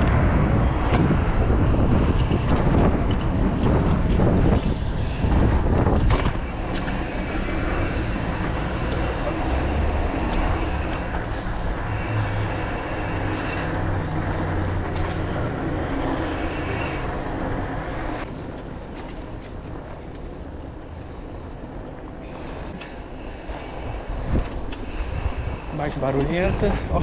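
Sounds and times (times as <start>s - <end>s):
wind and road noise from bicycle: 0.0s - 27.0s.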